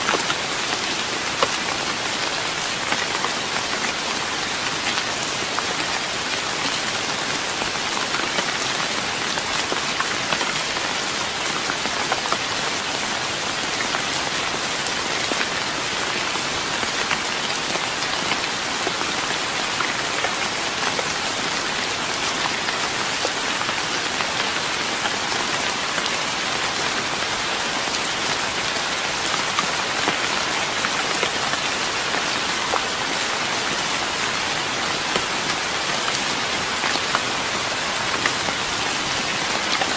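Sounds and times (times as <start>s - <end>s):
rain on a wooden deck: 0.0s - 39.9s.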